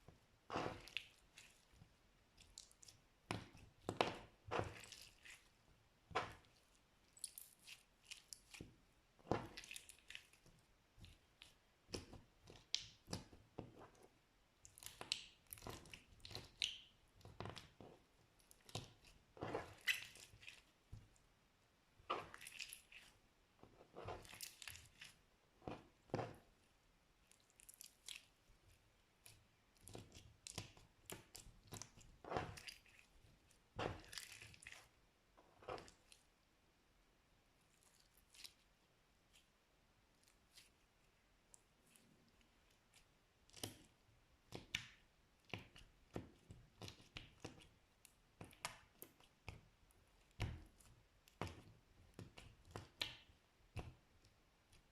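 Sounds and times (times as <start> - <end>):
slime squelching: 0.0 - 36.6, 37.4 - 54.9.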